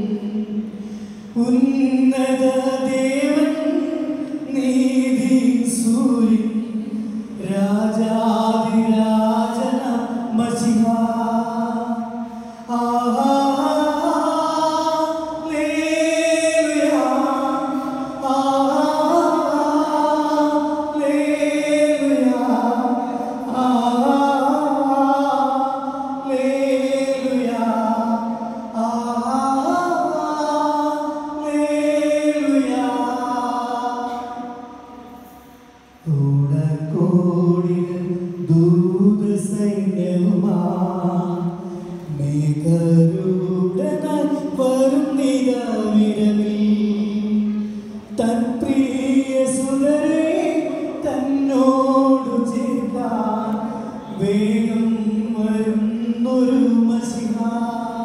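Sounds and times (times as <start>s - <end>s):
man singing through pa: 0.0s - 35.1s, 35.7s - 58.0s.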